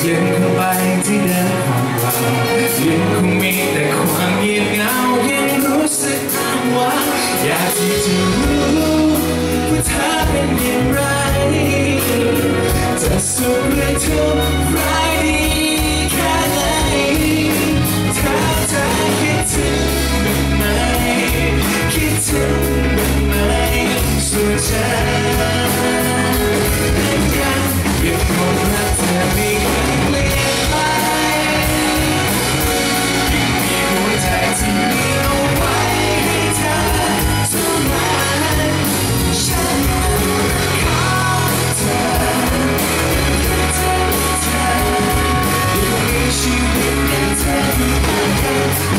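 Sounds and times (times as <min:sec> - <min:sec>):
live pop rock band: 0:00.0 - 0:48.9
man singing lead vocals: 0:00.0 - 0:48.9.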